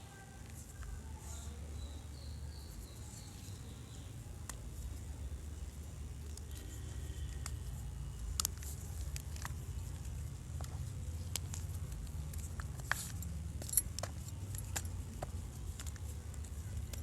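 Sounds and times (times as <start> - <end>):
chalk crunching and crackling: 0.4 - 17.0.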